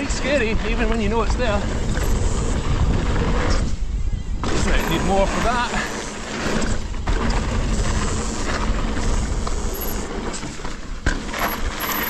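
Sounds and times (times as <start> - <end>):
bike tyres rolling on gravel: 0.0 - 12.0
wind on microphone: 0.0 - 12.0.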